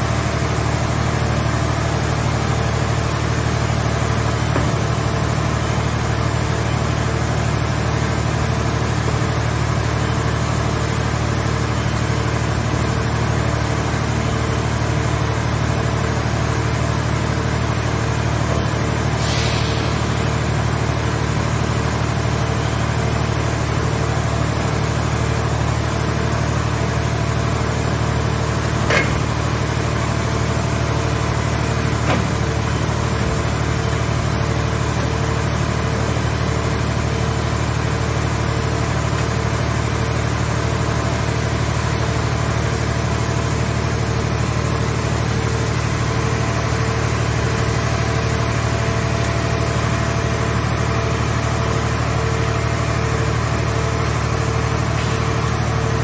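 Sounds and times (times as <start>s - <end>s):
hydraulic power unit droning: 0.0s - 56.0s.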